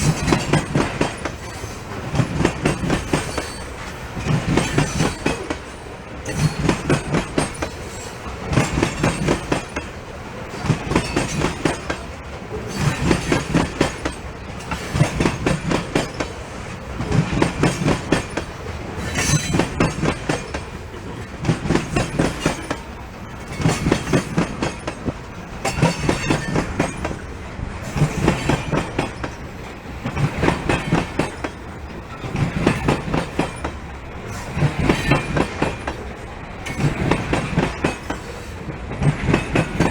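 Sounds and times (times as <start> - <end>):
train rolling rumble: 0.0 - 39.9
train wheels clicking over rail joints: 0.0 - 39.9.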